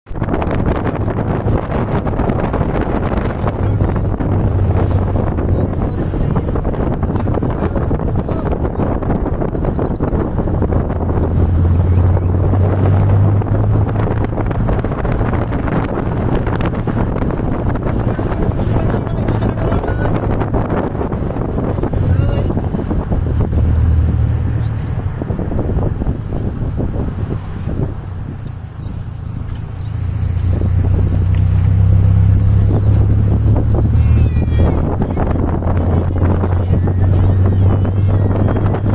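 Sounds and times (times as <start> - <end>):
vehicle engine humming: 0.0 - 38.9
wind buffeting microphone: 0.1 - 38.9.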